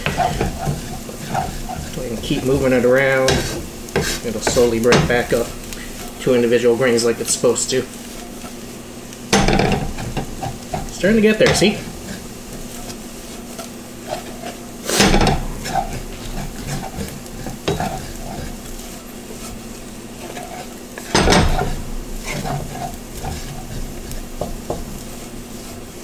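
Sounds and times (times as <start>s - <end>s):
rice sizzling in a wok: 0.0s - 26.0s
wooden spatula scraping a wok: 0.0s - 26.0s.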